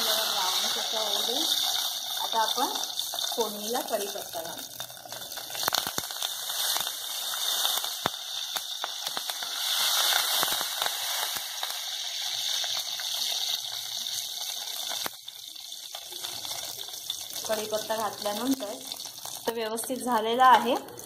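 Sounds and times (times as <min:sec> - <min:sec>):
leaves sizzling in hot oil: 0:00.0 - 0:21.0.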